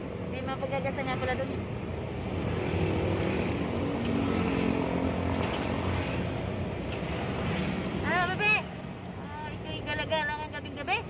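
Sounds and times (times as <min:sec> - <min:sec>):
road noise: 0:00.0 - 0:11.0
vehicle engine rumble: 0:00.0 - 0:11.0.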